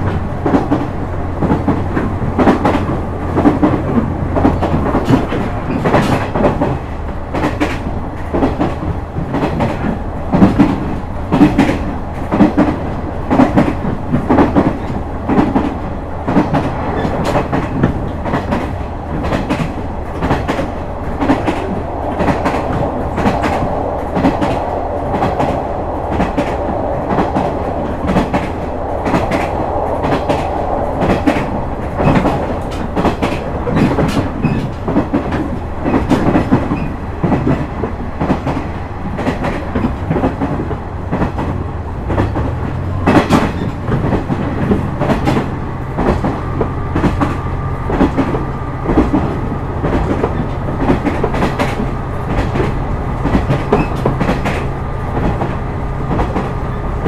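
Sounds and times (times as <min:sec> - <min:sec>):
train wheels clattering over rail joints: 0:00.0 - 0:56.8
train rumble: 0:00.0 - 0:57.0.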